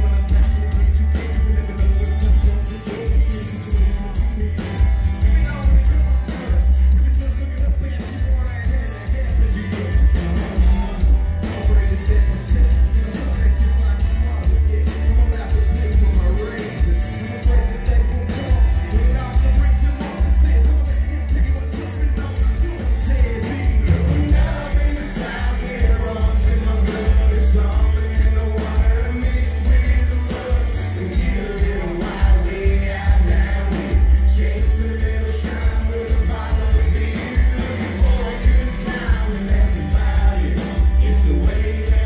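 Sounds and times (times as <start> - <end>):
live band playing: 0.0 - 42.0
man singing lead: 0.0 - 42.0.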